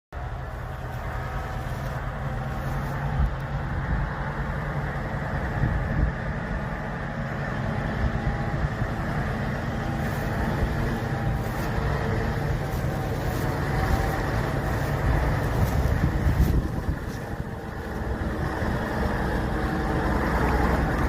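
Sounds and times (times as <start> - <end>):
diesel engine rumbling: 0.1 - 21.0.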